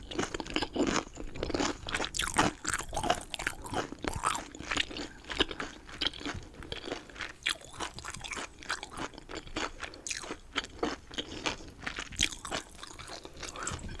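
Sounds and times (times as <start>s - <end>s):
chewing crunchy chicken: 0.0s - 14.0s.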